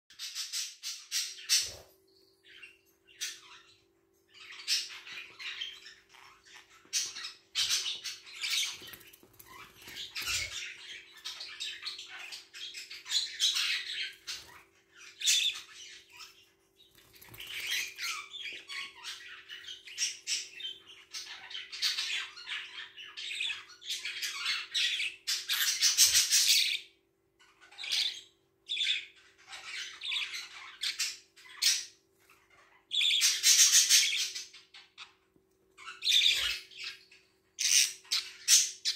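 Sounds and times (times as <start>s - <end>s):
budgerigars chattering and squawking: 0.1s - 1.9s, 2.5s - 35.2s, 35.8s - 38.9s.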